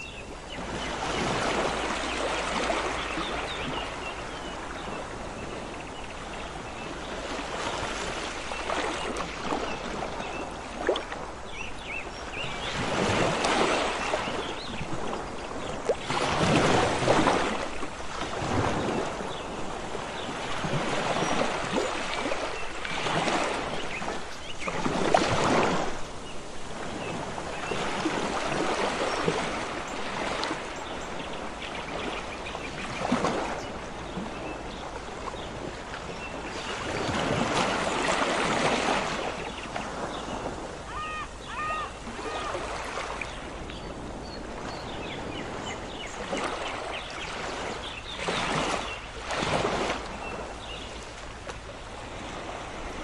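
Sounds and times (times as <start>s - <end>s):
sea waves breaking on beach: 0.0s - 53.0s.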